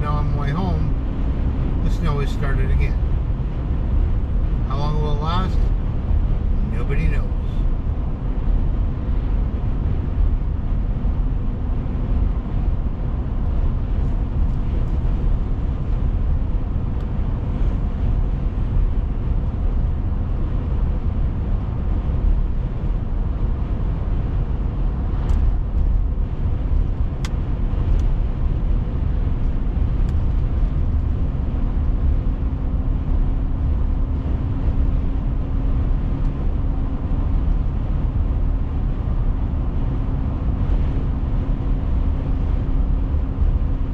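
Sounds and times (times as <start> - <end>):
car road noise from inside: 0.0 - 43.9.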